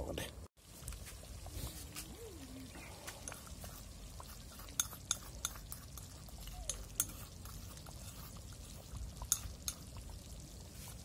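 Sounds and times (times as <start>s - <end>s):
thick mixture boiling and popping: 0.6s - 11.0s.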